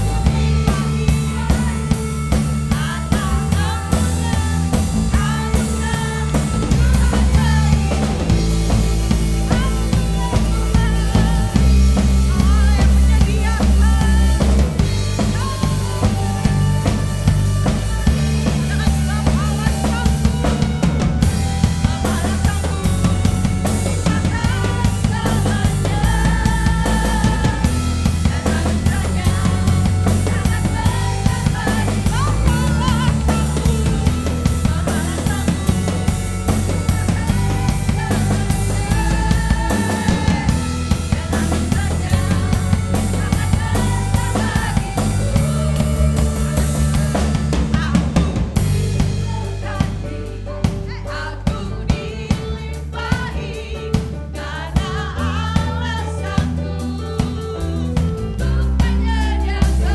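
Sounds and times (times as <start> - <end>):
drum kit beat: 0.0 - 59.9
heavy bass guitar line: 0.0 - 59.9
sustained melody lines: 0.0 - 59.9.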